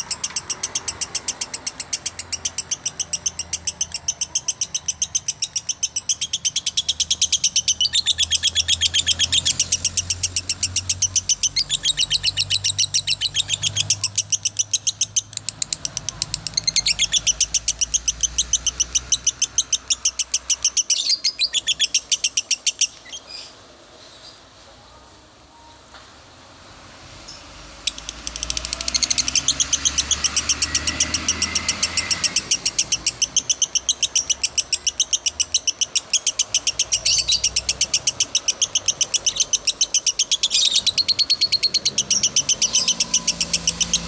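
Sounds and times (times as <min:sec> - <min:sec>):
lovebird chirping: 0:00.0 - 0:23.6, 0:27.3 - 0:44.0.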